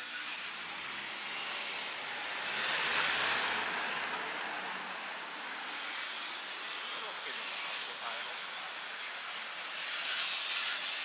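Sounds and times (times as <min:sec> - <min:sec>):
vehicle tyre and road noise: 0:00.0 - 0:11.0.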